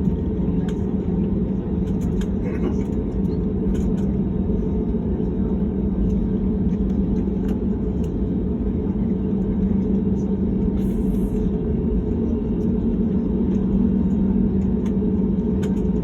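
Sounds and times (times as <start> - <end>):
aircraft engines and airflow rumble: 0.0 - 16.0.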